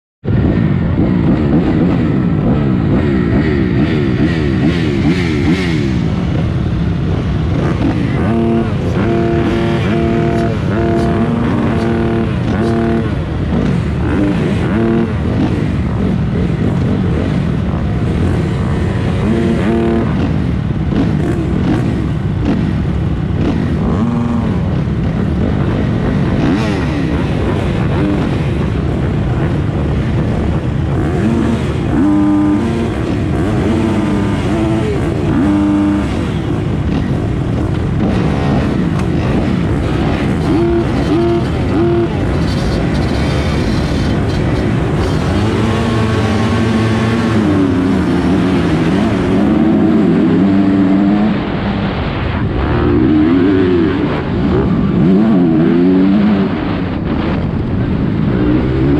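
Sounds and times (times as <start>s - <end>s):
motocross engines revving: 0.3s - 58.9s.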